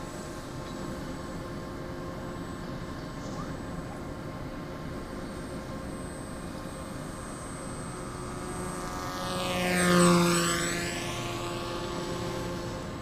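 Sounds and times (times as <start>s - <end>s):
electric model plane motor whining: 0.0s - 13.0s.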